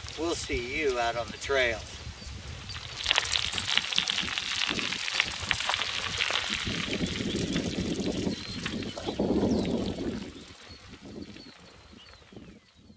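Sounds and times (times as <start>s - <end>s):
bicycle tyres crunching on gravel: 0.0s - 12.9s.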